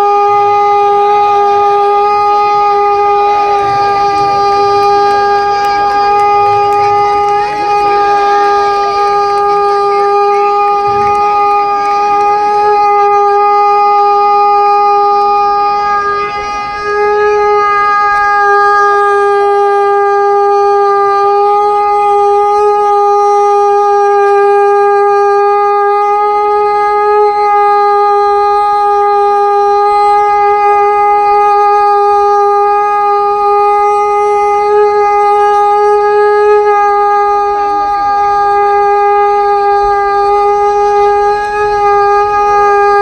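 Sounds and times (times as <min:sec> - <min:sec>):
conch shell trumpet note: 0:00.0 - 0:43.0.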